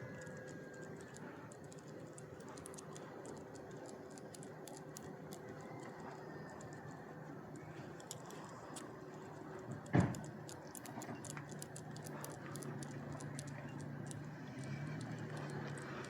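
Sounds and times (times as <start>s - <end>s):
dog claws clicking on road: 0.0s - 16.0s.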